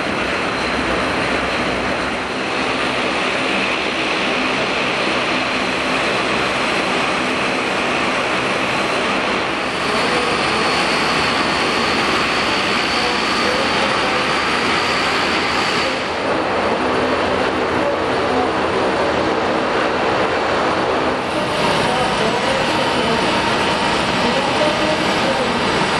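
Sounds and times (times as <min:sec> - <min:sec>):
jet engines whining: 0:00.0 - 0:25.9.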